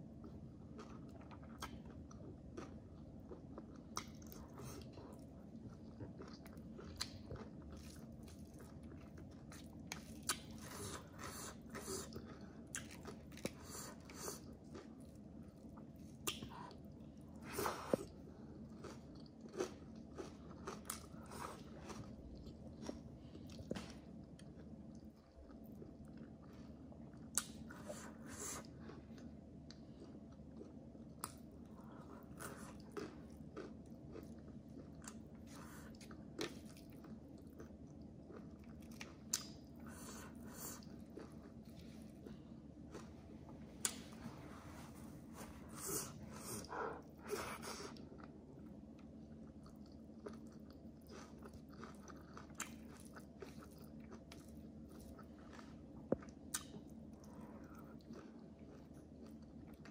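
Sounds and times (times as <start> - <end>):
faint steady hum: 0.0 - 59.9
person chewing food: 0.0 - 59.9.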